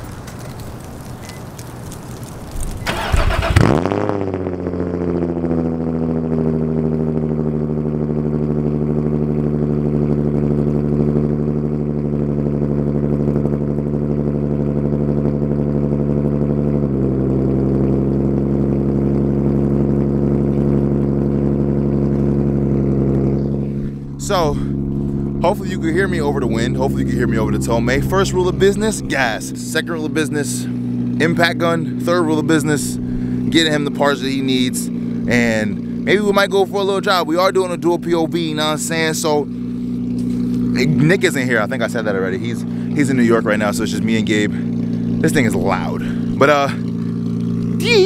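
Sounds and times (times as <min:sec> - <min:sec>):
car engine starting and idling: 0:00.0 - 0:48.0.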